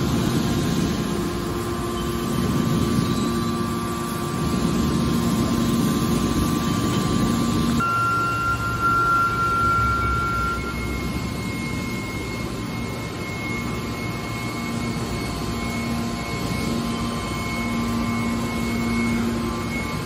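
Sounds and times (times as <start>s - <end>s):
high mechanical whine: 0.0s - 20.0s
hydraulic power unit drone: 0.0s - 20.0s
low hum: 0.0s - 20.0s.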